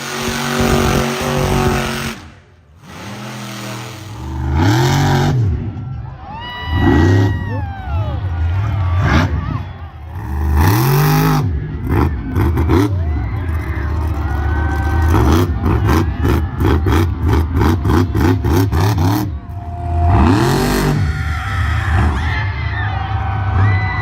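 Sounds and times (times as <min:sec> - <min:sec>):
truck engine revving: 0:00.0 - 0:05.9, 0:08.1 - 0:24.0.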